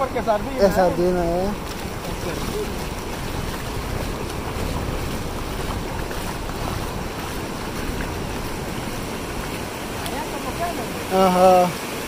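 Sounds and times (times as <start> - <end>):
sea surf washing: 0.0 - 12.0
wind rumbling on microphone: 0.0 - 12.0.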